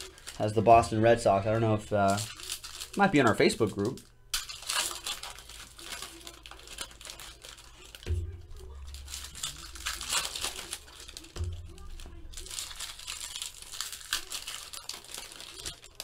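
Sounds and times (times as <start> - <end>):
foil wrappers tearing and crinkling: 0.0 - 16.0.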